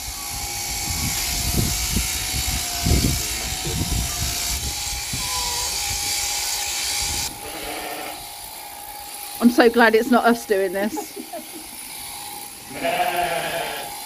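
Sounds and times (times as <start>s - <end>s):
electric shearing handpiece buzzing: 0.0s - 14.0s.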